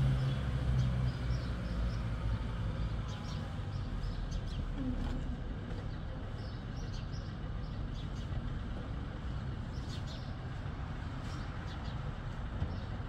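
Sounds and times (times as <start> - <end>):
vehicle driving low rumble: 0.0 - 13.0.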